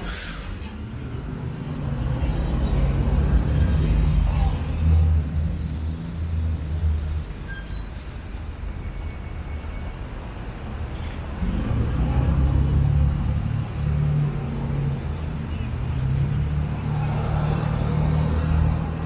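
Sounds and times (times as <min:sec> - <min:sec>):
truck engines idling and pulling away: 0:00.0 - 0:19.0.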